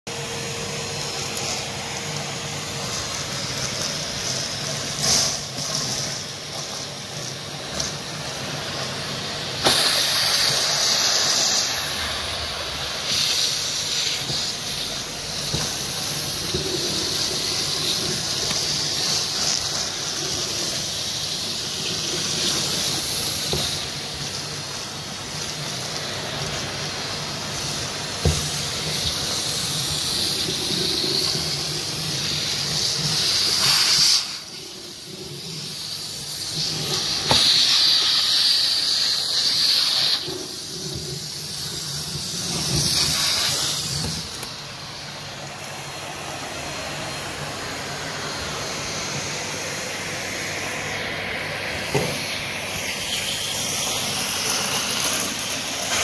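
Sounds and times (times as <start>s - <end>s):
vacuum cleaner running: 0.1s - 56.0s.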